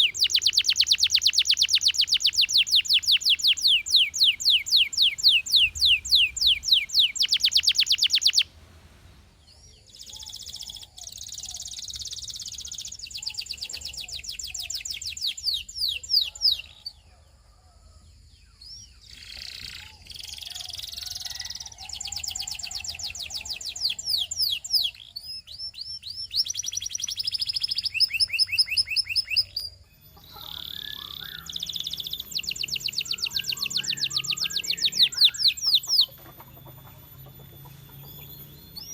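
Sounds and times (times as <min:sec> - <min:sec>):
canary singing trills: 0:00.0 - 0:08.6, 0:09.3 - 0:17.5, 0:18.4 - 0:38.9.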